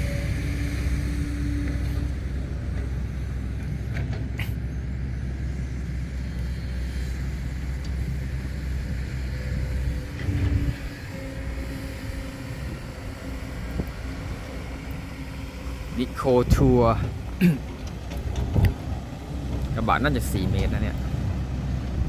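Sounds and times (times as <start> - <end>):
truck driving rumble: 0.0 - 22.0.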